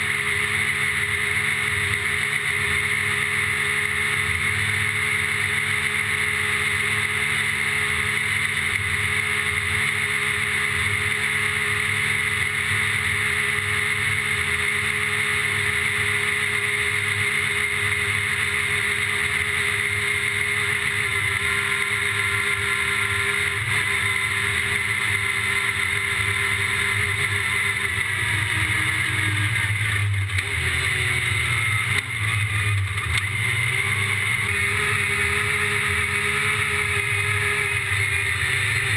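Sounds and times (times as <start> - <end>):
engine running at steady revs: 0.0 - 38.9.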